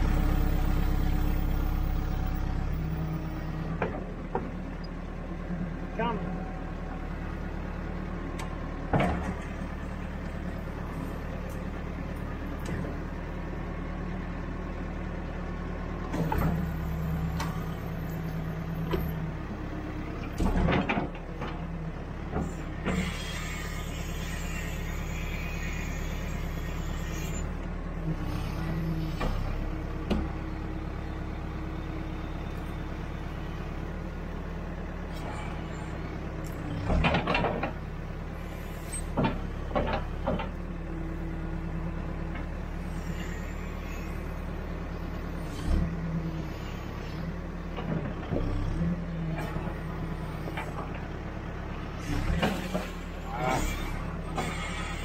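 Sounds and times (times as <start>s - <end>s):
diesel engine under load: 0.0s - 55.0s
hydraulics working: 0.0s - 55.0s.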